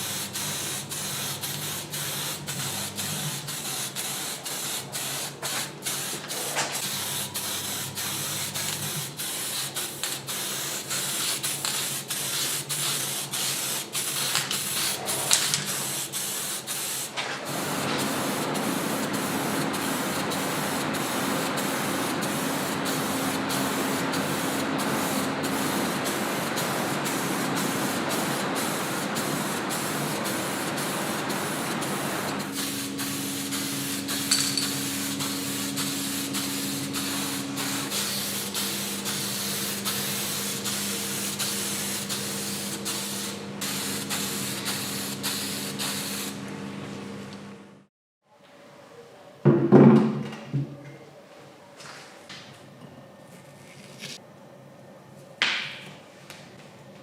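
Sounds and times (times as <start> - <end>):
compressed air spraying: 0.0 - 46.4.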